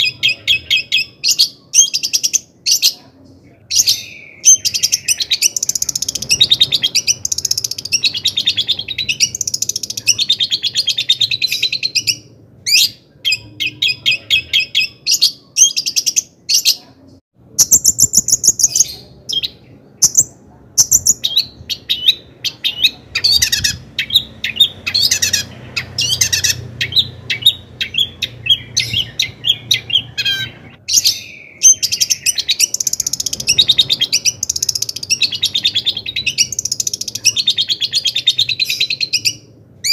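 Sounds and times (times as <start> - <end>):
shrike singing chattering song: 3.7 - 16.8, 17.5 - 39.9.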